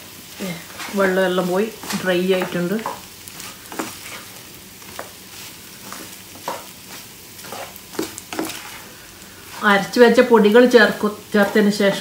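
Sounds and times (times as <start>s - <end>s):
chicken sizzling in frying pan: 0.0s - 12.0s
wooden spatula scraping pan: 0.4s - 12.0s.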